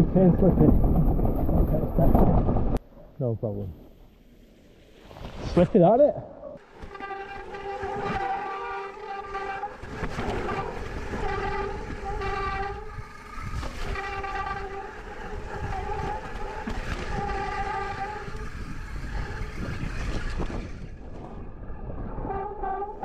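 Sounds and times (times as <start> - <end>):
tyre and wind rumble: 0.0 - 2.8, 4.7 - 23.0.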